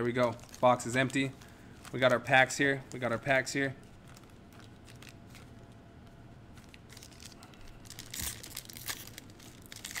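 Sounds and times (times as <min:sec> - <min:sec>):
foil wrapper crinkling: 0:00.0 - 0:05.8, 0:06.5 - 0:10.0.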